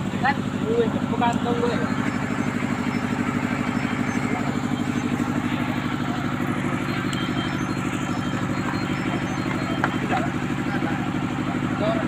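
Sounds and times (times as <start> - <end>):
throbbing bass drone: 0.0 - 12.0.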